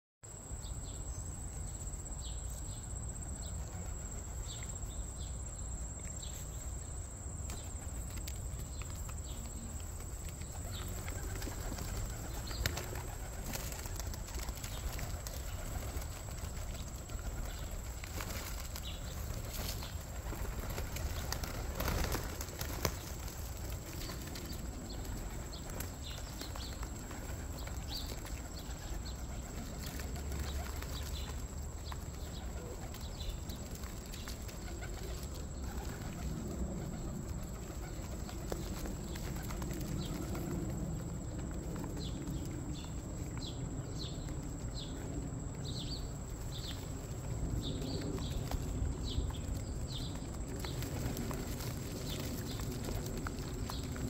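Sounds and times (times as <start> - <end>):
pigeons flapping wings: 7.4 - 45.3, 46.0 - 54.0.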